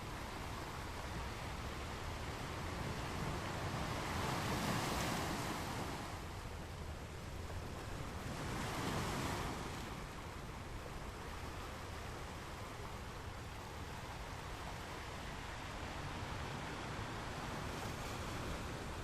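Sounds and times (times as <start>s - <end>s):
ocean waves on a beach: 0.0s - 19.0s.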